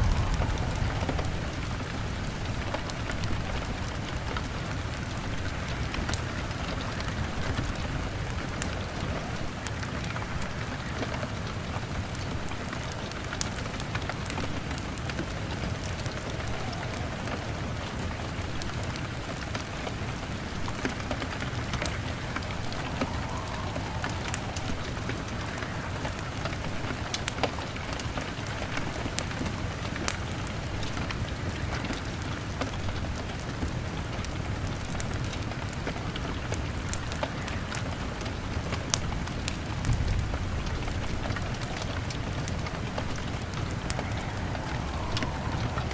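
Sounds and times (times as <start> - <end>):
log fire crackling: 0.0 - 45.9
rain on a window: 0.0 - 45.9.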